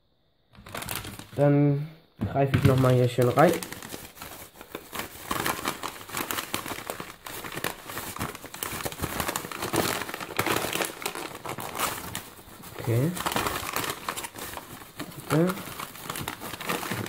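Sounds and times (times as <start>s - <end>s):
mailing bag crinkling: 0.6s - 1.5s, 2.3s - 17.0s.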